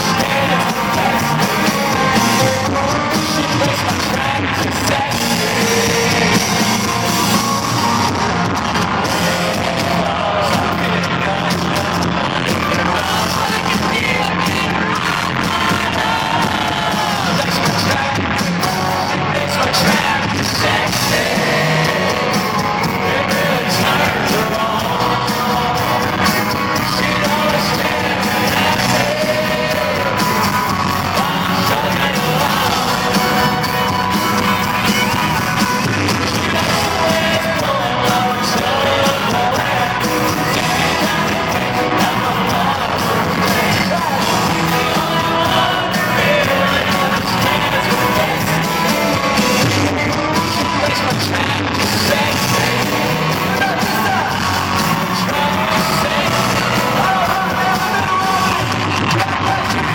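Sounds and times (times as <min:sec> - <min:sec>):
crowd yelling and whooping: 0:00.0 - 0:59.9
live country band with vocals: 0:00.0 - 0:59.9.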